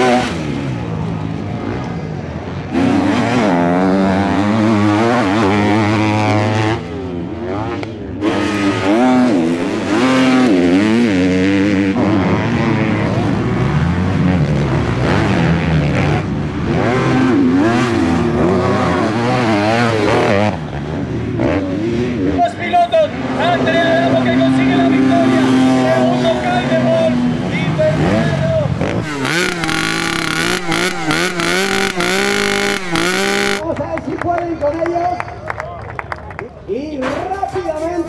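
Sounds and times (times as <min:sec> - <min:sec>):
motocross bike engines revving: 0:00.0 - 0:33.6.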